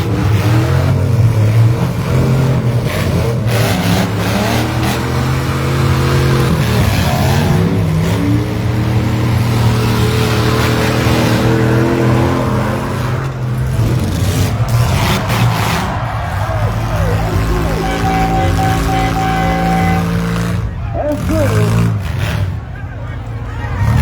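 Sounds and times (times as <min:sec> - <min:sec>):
engines revving: 0:00.0 - 0:24.0.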